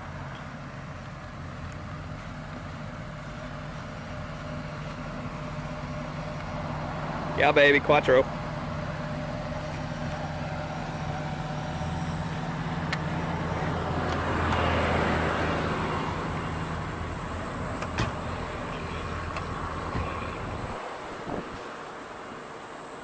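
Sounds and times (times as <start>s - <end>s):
road traffic passing: 0.0s - 23.0s
vehicle engine idling: 0.0s - 23.0s.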